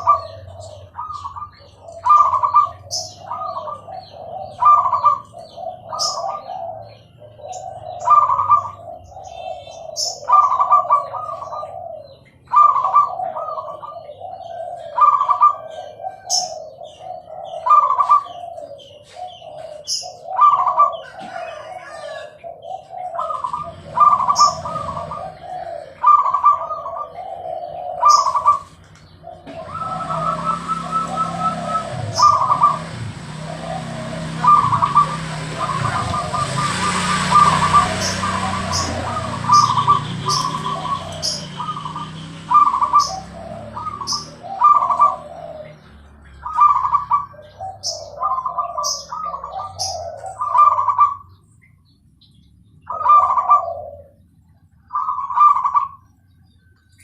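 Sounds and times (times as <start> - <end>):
dove cooing: 0.0 - 51.4, 52.8 - 56.4.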